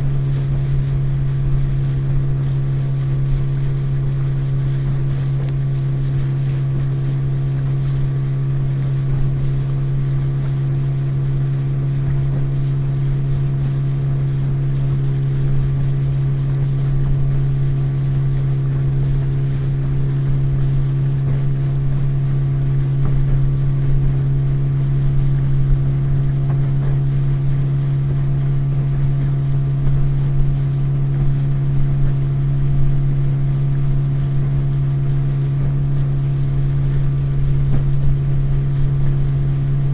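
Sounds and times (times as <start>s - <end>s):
motorboat engine running: 0.0s - 39.9s
water wash: 0.0s - 39.9s.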